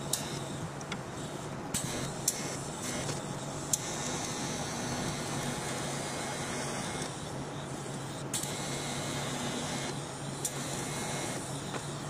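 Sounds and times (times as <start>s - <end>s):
welding arc hissing: 1.7s - 12.0s.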